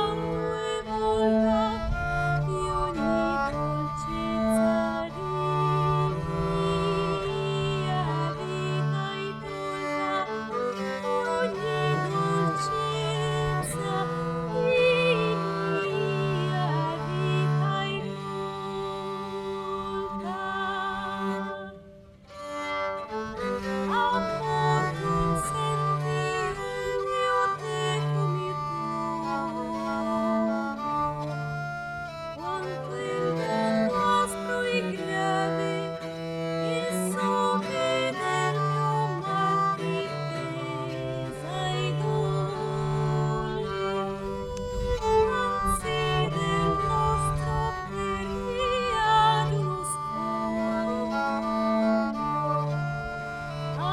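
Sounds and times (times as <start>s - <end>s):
bowed strings playing slow piece: 0.0s - 53.9s.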